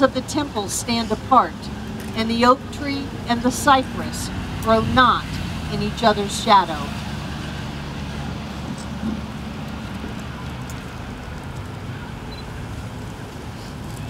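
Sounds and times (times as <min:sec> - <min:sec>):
low engine hum: 0:00.0 - 0:14.0
street traffic rumble: 0:00.0 - 0:14.0.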